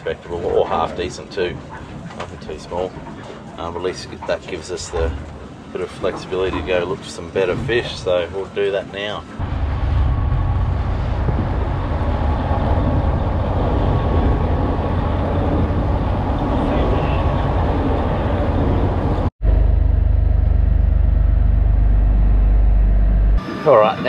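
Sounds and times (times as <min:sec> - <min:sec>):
water rushing along hull: 0:00.0 - 0:19.3
boat engine running: 0:00.0 - 0:23.6.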